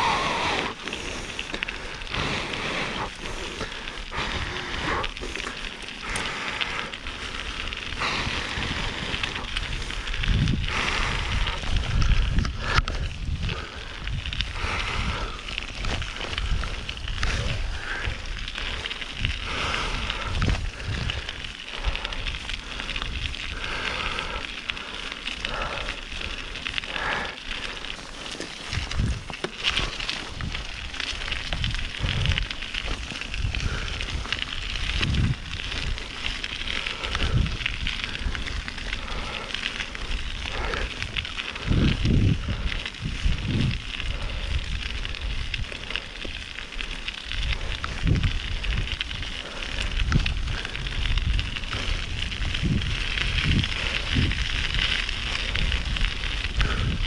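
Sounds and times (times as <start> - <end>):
bike tyres and wind crackling: 0.0 - 57.0
low thuds from trail bumps: 0.0 - 57.0.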